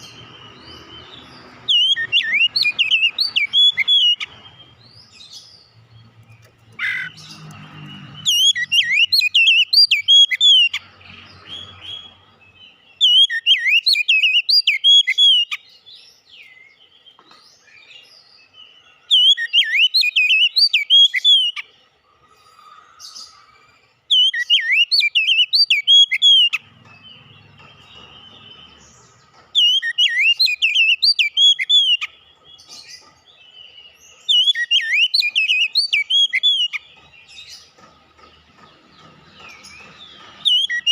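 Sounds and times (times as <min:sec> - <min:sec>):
bird singing whistled notes: 0:00.0 - 0:05.7, 0:06.3 - 0:10.8, 0:11.4 - 0:21.7, 0:24.1 - 0:37.7, 0:39.4 - 0:40.9.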